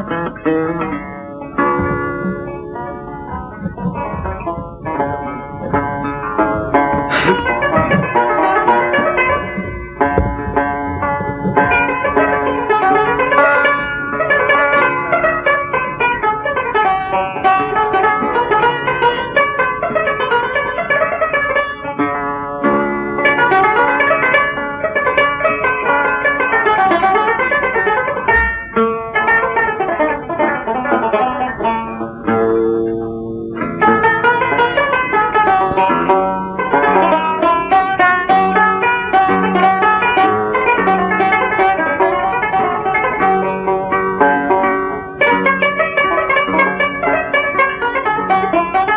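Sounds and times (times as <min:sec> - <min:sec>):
fast plucked-string melody: 0:00.0 - 0:48.9.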